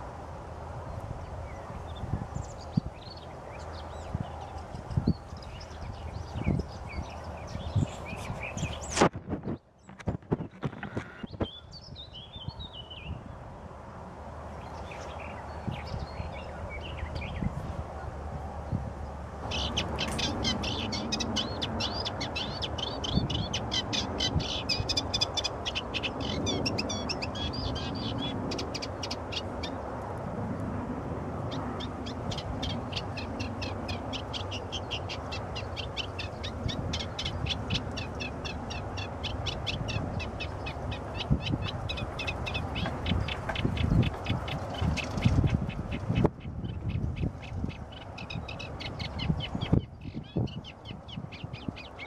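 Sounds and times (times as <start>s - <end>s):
songbird chattering song: 0.8s - 13.4s, 14.5s - 30.0s, 31.5s - 52.0s.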